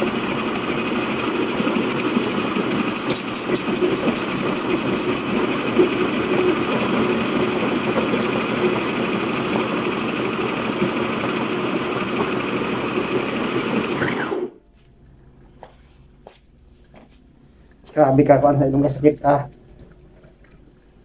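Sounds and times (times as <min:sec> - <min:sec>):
grinding mill running: 0:00.0 - 0:21.0.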